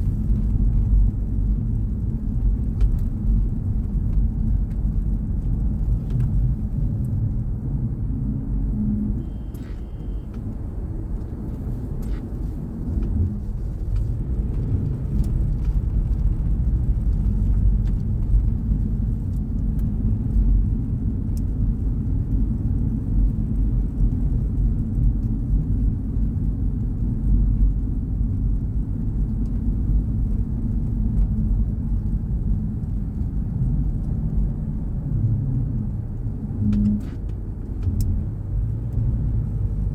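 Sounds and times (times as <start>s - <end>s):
tyre noise on snowy road: 0.0s - 8.1s, 8.7s - 39.9s
car engine rumble: 0.0s - 39.9s.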